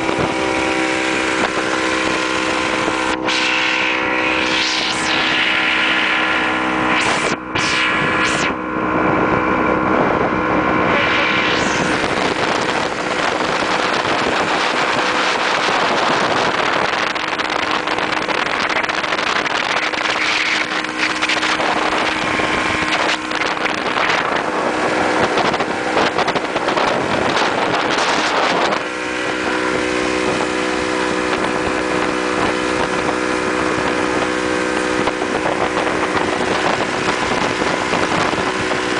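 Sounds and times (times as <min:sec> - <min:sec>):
motorboat engine: 0:00.0 - 0:38.9
rushing water: 0:00.0 - 0:38.9
wind: 0:00.0 - 0:38.9.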